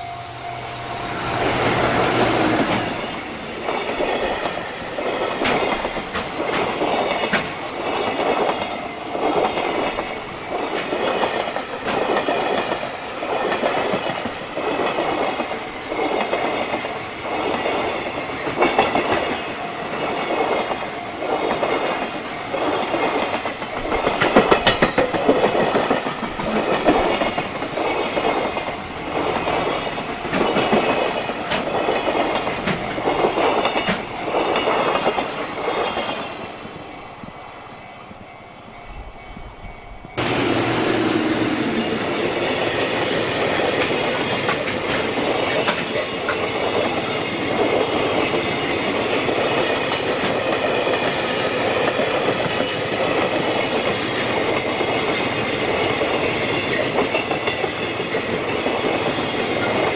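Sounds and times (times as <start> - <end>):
train wheels clattering over rail joints: 1.5 - 36.5, 42.4 - 59.9.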